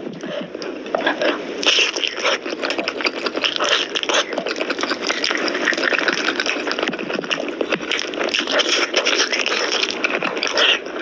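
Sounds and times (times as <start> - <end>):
wet chewing and smacking: 0.0 - 11.0.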